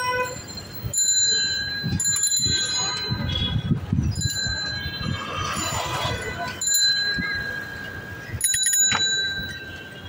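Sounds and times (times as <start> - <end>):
rickshaw bells ringing: 0.0 - 10.0.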